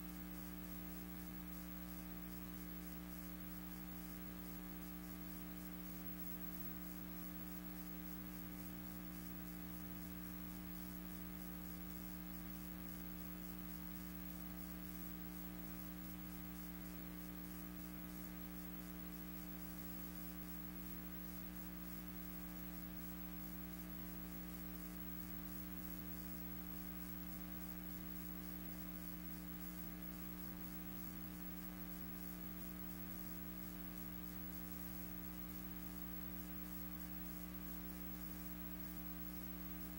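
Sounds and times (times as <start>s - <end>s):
electrical hum with hiss: 0.0s - 39.9s.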